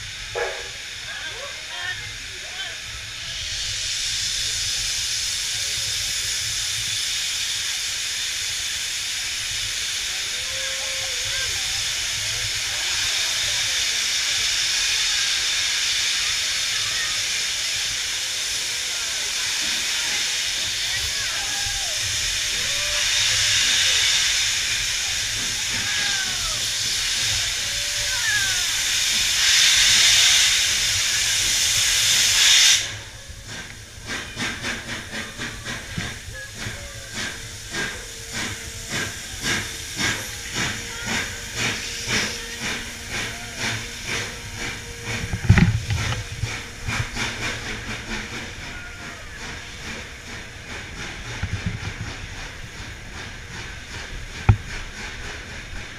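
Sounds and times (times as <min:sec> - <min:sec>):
locomotive exhaust chuffing: 0:00.0 - 0:55.9
steam hissing from locomotive: 0:00.0 - 0:55.9.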